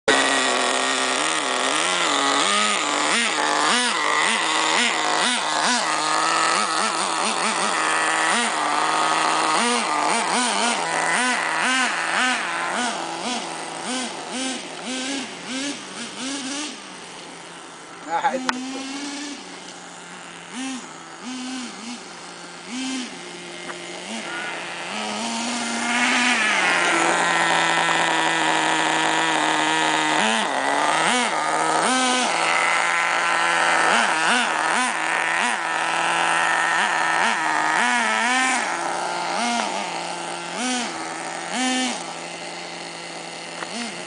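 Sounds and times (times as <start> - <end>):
small engine revving: 0.0 - 44.0.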